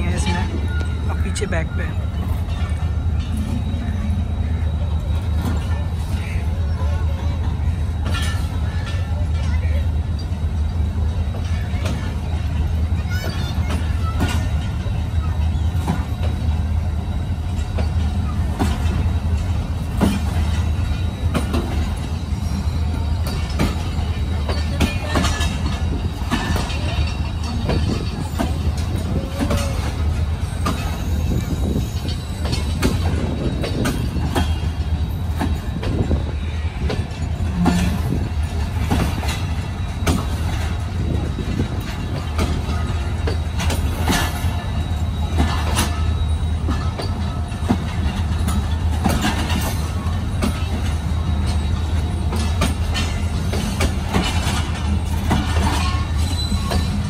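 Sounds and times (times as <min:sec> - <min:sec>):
train coaches rumbling: 0:00.0 - 0:57.0
wheels clicking on track: 0:00.0 - 0:57.0.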